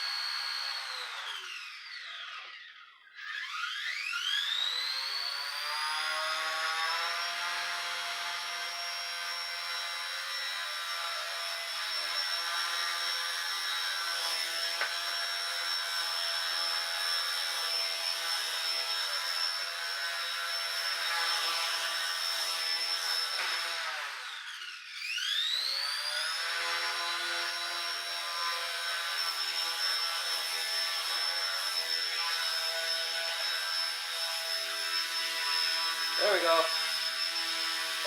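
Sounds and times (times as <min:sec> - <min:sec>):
rc helicopter motor whine: 0:00.0 - 0:38.0.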